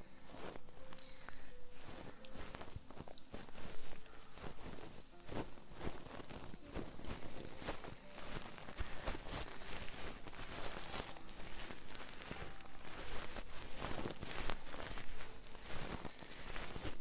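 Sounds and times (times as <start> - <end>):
crackling and rubbing on microphone: 0.0 - 17.0.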